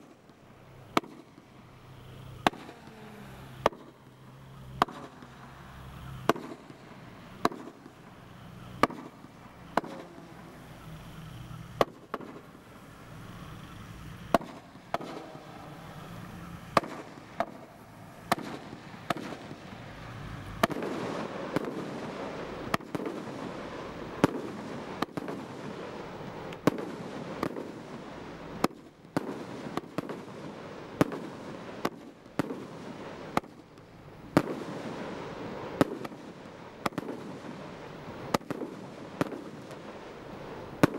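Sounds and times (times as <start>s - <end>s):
crackle of bursting stars: 0.0s - 40.9s
firework shell bursts: 0.0s - 40.9s.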